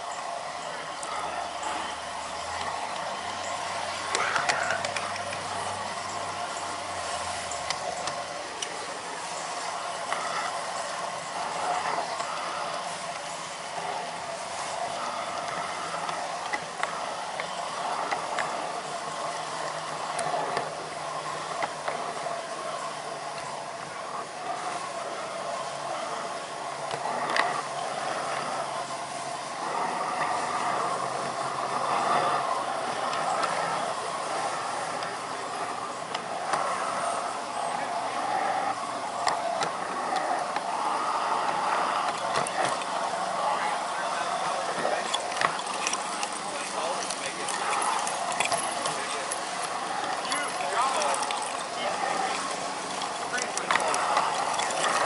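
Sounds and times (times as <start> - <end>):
model train rumbling on track: 0.0 - 55.0.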